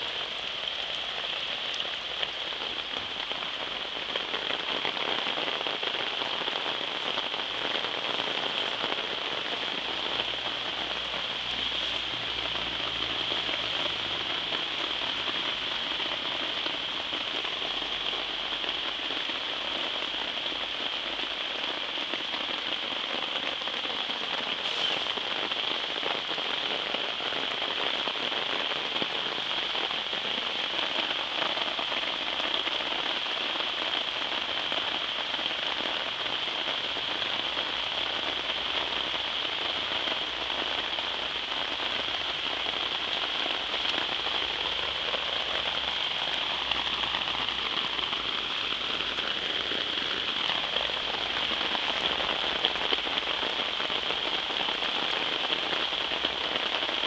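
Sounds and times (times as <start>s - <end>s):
heavy rain hissing on garden: 0.0s - 57.0s.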